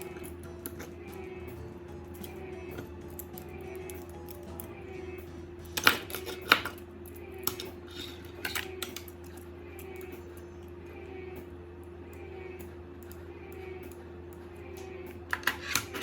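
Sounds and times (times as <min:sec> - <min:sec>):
small hard parts clicking: 0:00.0 - 0:10.8, 0:11.4 - 0:16.0
steady low hum: 0:00.0 - 0:16.0.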